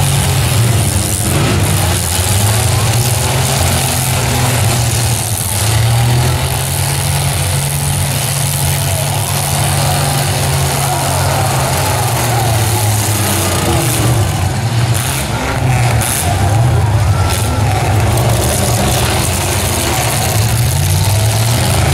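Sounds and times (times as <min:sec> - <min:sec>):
truck engines rumbling: 0:00.0 - 0:21.9.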